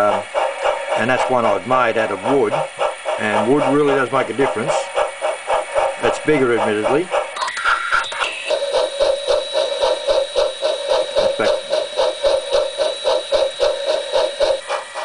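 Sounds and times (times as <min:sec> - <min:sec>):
model train sound effect: 0:00.0 - 0:15.0.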